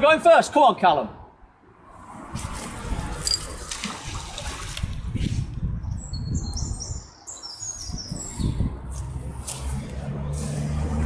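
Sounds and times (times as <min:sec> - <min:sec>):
low rumbling outdoor noise: 0:00.0 - 0:11.0.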